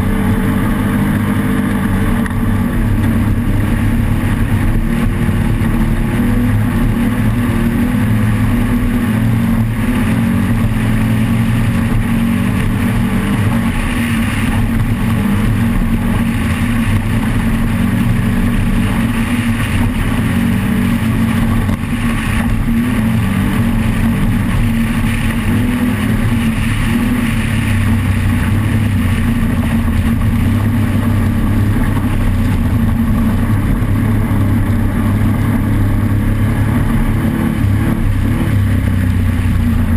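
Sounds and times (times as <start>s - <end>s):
race vehicle engine running: 0.0s - 39.9s.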